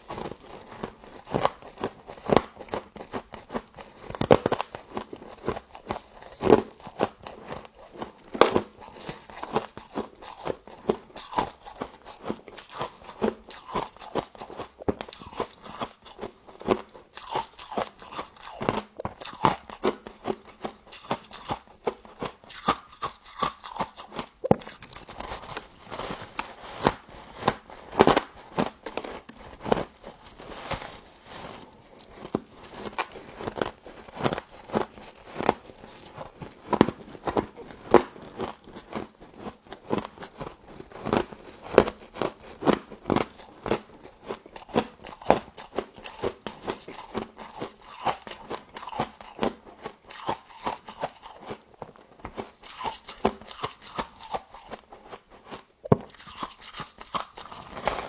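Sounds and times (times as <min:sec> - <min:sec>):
crunching and chewing ice: 0:00.0 - 0:58.0.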